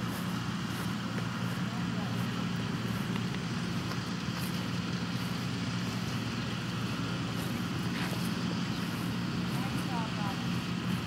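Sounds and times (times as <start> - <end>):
low rumble with faint hum: 0.0 - 11.0.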